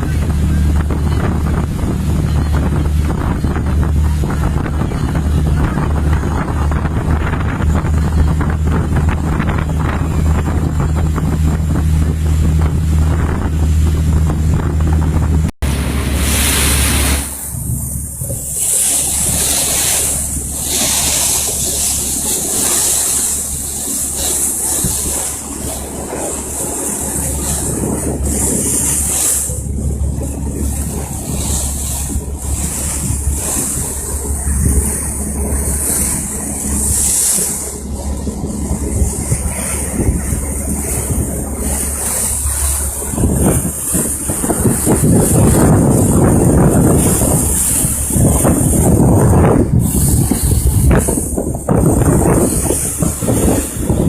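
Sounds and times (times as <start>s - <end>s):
boat engine drone: 0.0s - 54.0s
water noise: 0.0s - 54.0s
wind on microphone: 0.0s - 54.0s.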